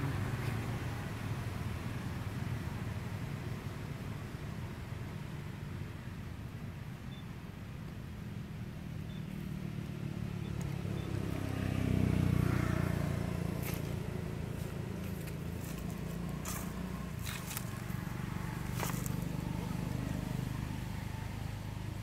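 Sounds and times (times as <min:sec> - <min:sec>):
vehicle engine rumble passing: 0:00.0 - 0:06.9, 0:08.0 - 0:22.0.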